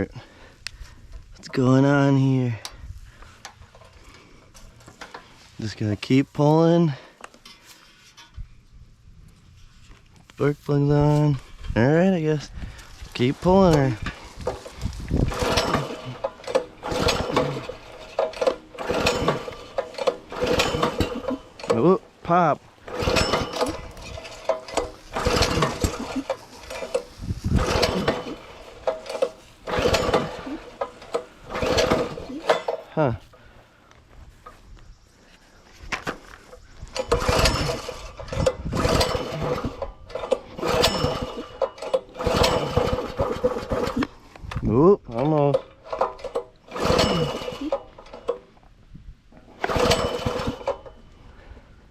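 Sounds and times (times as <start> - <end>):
recoil starter pulled: 0.0 - 8.5, 9.8 - 33.6, 35.9 - 51.5
engine cranking without catching: 0.0 - 8.6, 10.1 - 35.1, 35.7 - 51.9.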